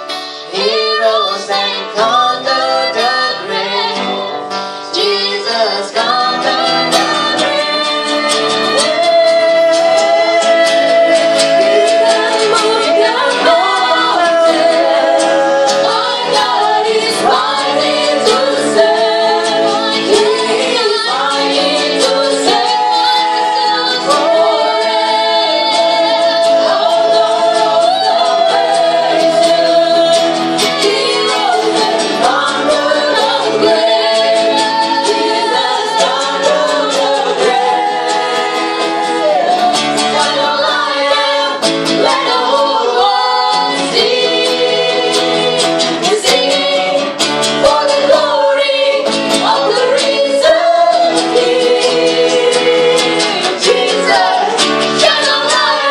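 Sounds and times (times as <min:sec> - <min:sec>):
group singing worship song: 0:00.0 - 0:55.9.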